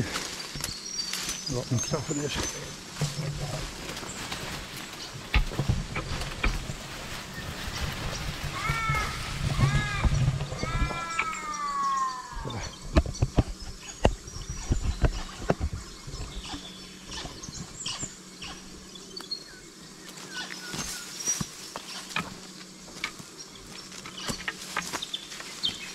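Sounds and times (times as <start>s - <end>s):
bird calling: 0.0s - 25.9s
twigs and leaves crackling underfoot: 0.0s - 25.9s.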